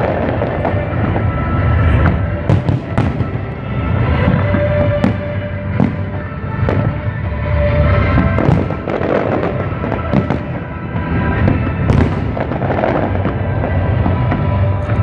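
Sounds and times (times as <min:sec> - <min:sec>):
fireworks bursting: 0:00.0 - 0:15.0
fireworks crackle: 0:00.0 - 0:15.0.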